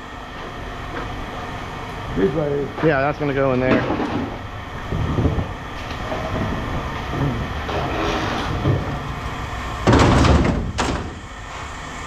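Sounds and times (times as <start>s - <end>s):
machinery rumble: 0.0s - 12.0s.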